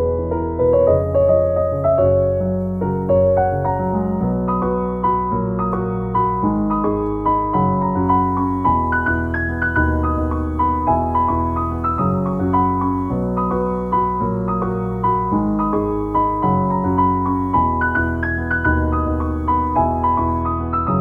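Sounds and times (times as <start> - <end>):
bass line: 0.0 - 21.0
bouncy piano tune: 0.0 - 21.0.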